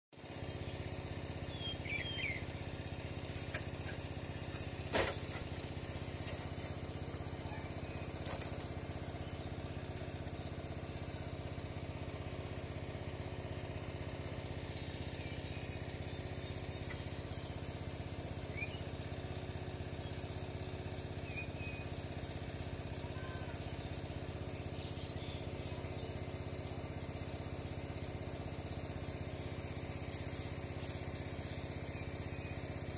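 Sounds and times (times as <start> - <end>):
engine droning: 0.2 - 32.9.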